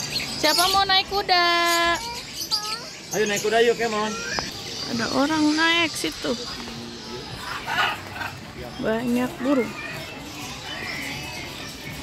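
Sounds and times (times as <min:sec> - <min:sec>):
birds chirping: 0:00.0 - 0:12.0
faint music: 0:00.0 - 0:12.0.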